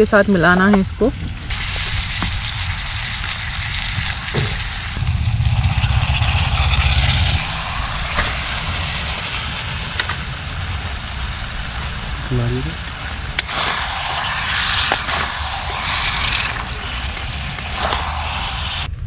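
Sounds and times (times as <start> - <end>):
masala sizzling in a pan: 0.6 - 18.9
wind rumbling on microphone: 1.0 - 19.0.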